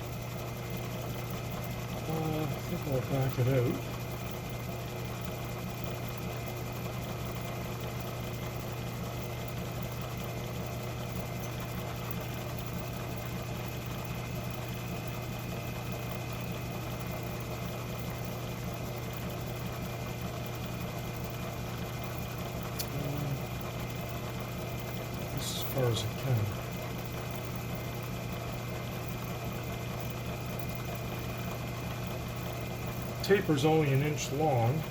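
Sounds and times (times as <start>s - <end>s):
metal lathe humming: 0.0s - 34.9s.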